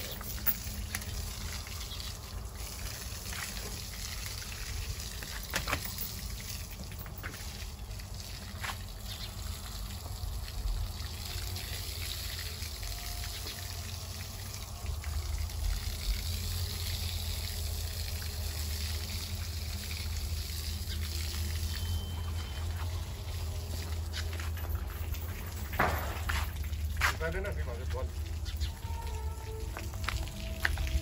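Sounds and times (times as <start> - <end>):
hose spraying water: 0.0 - 31.0
water splashing on brick paving: 0.0 - 31.0.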